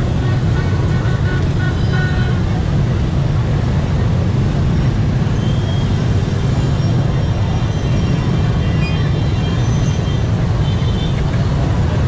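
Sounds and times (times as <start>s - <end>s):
many motorbike engines rumbling: 0.0s - 12.0s.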